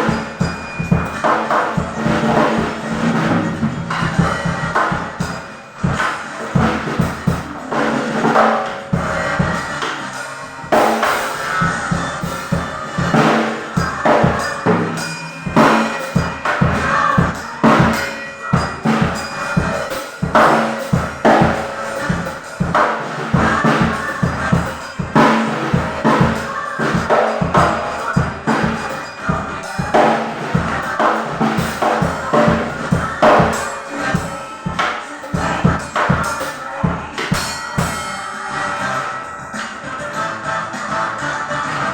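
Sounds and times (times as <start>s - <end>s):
drum kit playing: 0.0s - 38.2s.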